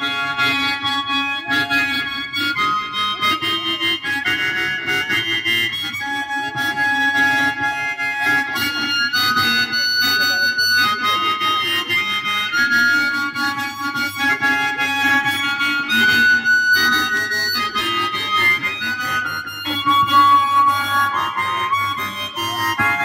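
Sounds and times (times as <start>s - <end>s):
amplified harmonica melody: 0.0s - 23.0s.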